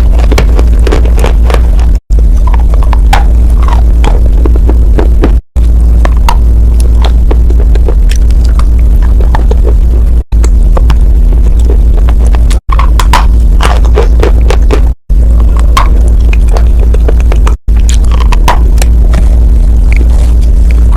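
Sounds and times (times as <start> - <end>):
crunching and chewing chalk: 0.0 - 20.9
steady low hum: 0.0 - 20.9.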